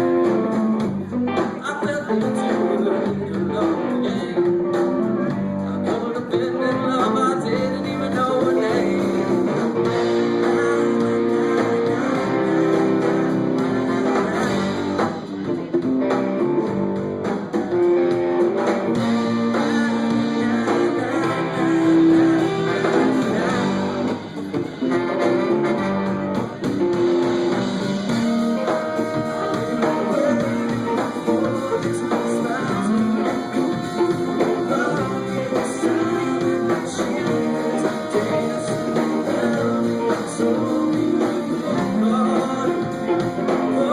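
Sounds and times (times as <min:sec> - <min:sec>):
electric guitar: 0:00.0 - 0:43.9
rock band playing live: 0:00.0 - 0:43.9.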